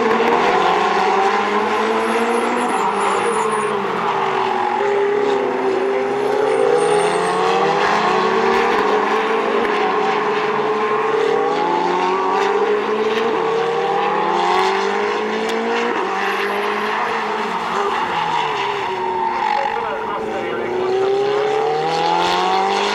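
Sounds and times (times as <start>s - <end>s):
race car engines accelerating: 0.0s - 22.9s.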